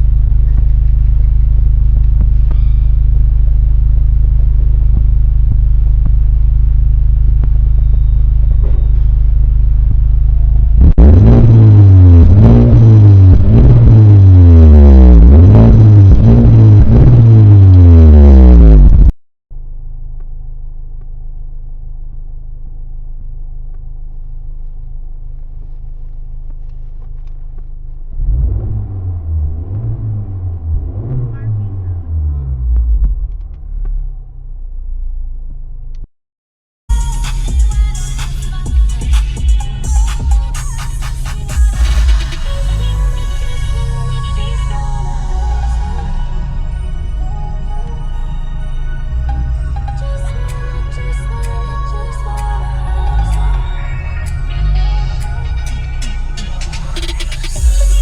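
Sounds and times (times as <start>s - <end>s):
car engine idling: 0.0s - 18.3s, 19.6s - 36.0s, 36.9s - 58.0s
engine revving in blips: 0.0s - 19.1s, 26.4s - 36.1s, 36.9s - 58.0s.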